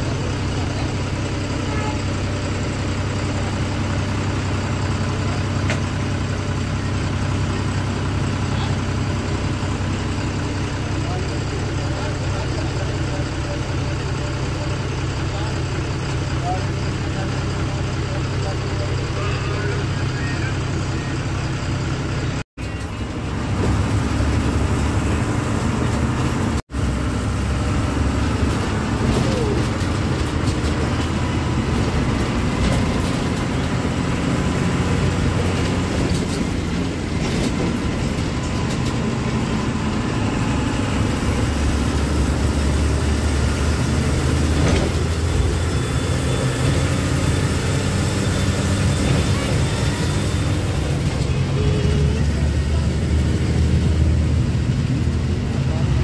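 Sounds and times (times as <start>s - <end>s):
bus engine running: 0.0s - 56.0s
road noise: 0.0s - 56.0s.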